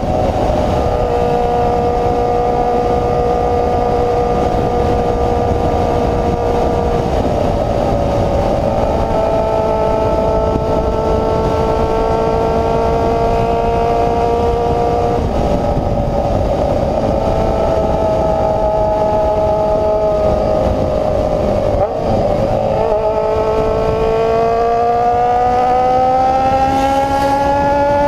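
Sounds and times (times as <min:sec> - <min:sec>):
motorcycle engine with open exhaust: 0:00.0 - 0:28.0
rough rushing noise: 0:00.0 - 0:28.0.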